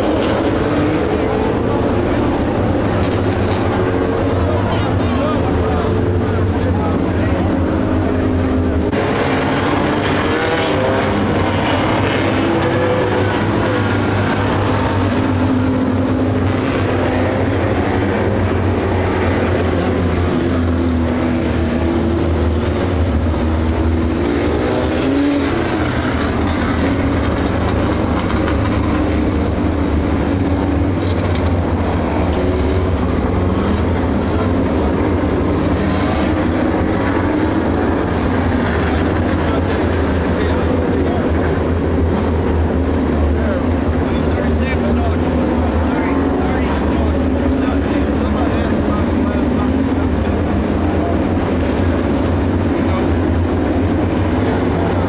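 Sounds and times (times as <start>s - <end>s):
race car engines revving and passing: 0.0s - 55.0s.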